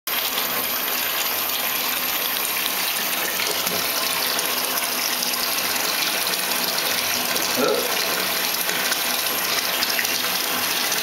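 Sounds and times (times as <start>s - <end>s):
water rushing into bathtub: 0.1s - 11.0s.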